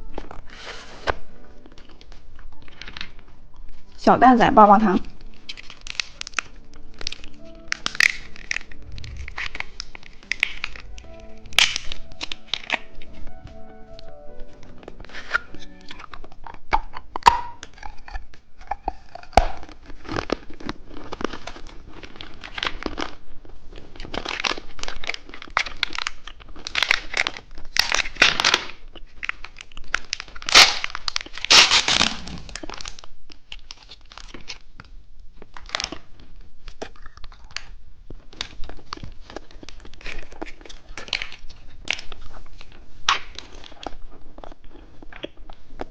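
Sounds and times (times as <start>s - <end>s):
plastic candy wrappers crinkling: 0.0s - 45.9s.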